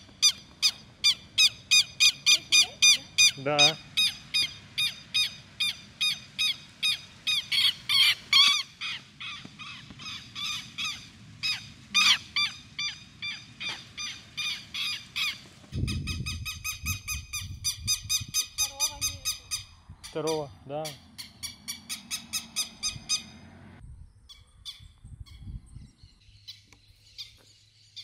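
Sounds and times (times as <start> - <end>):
bird alarm calls: 0.0 - 23.5.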